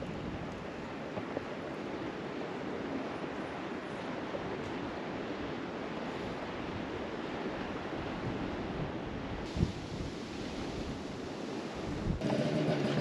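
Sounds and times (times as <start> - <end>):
wind blowing across microphone: 0.0 - 12.3.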